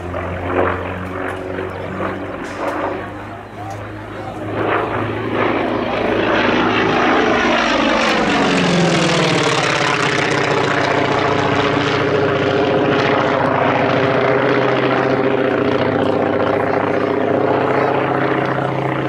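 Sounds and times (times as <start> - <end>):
propeller plane engine passing: 0.0 - 19.0.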